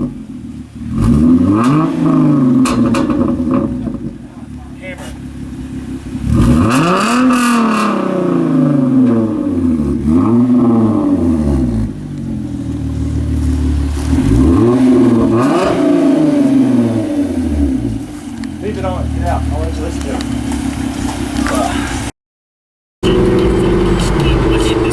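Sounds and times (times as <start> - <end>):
car engine revving: 0.0 - 22.1, 23.0 - 24.9.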